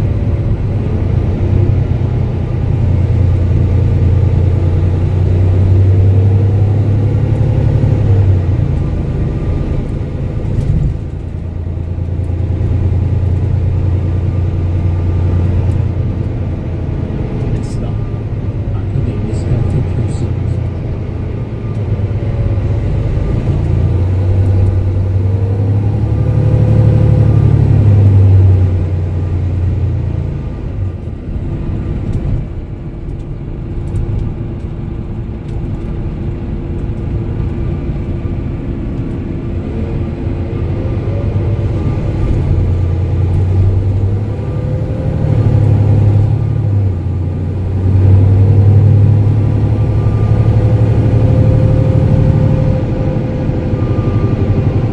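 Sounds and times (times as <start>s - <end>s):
bus diesel engine drone: 0.0s - 54.9s
thin engine whine: 0.0s - 54.9s.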